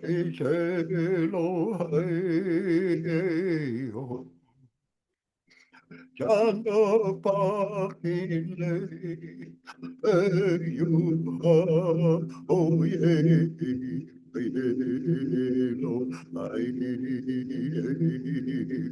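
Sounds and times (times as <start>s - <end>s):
person singing chant-like phrases: 0.0s - 4.2s, 6.2s - 18.9s.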